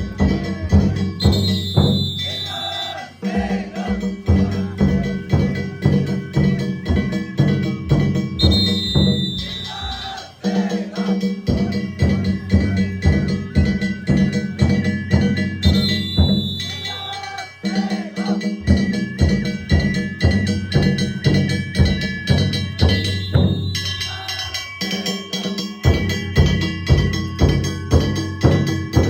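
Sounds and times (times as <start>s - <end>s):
taiko drum beating: 0.0s - 29.0s
hand gongs ringing: 4.2s - 29.0s.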